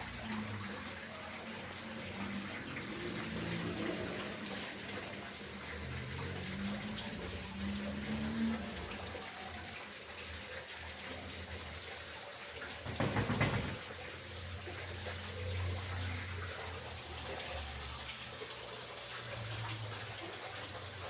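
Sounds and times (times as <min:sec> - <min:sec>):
moving water: 0:00.0 - 0:21.0.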